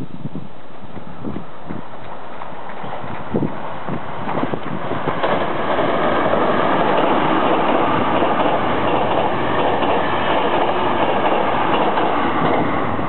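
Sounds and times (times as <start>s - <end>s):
train wheels rumbling on rails: 0.3s - 13.0s.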